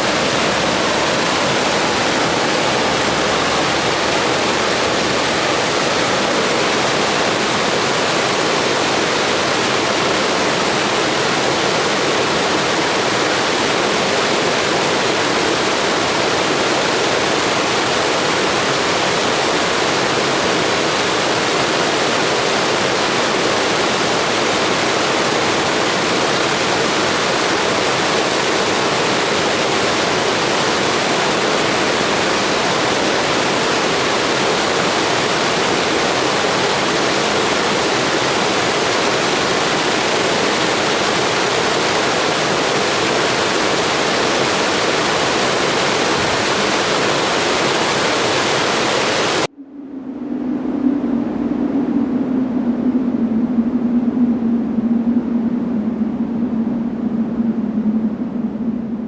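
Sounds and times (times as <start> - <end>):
blizzard wind rushing: 0.0 - 59.0.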